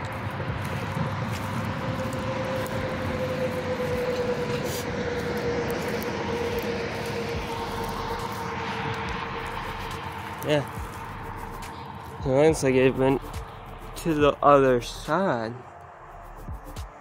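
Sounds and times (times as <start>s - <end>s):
highway traffic drone: 0.0s - 17.0s
truck passing by: 0.0s - 17.0s.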